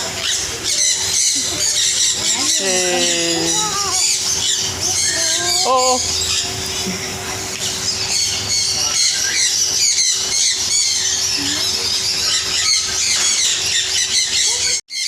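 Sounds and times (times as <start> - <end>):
parrots and birds squawking: 0.0 - 15.0.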